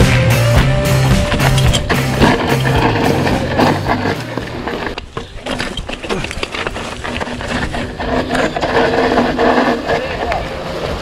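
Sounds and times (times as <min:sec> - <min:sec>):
bike tyres rolling on dirt: 0:00.0 - 0:11.0
bike knocks and rattles: 0:00.6 - 0:10.4.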